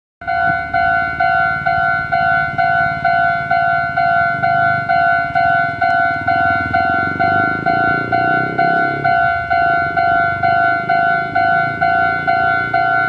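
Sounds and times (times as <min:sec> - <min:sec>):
level-crossing warning bell: 0:00.2 - 0:13.0.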